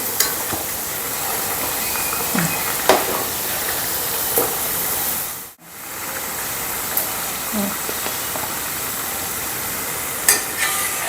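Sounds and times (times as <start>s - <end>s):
oil sizzling while deep-frying: 0.0s - 11.0s.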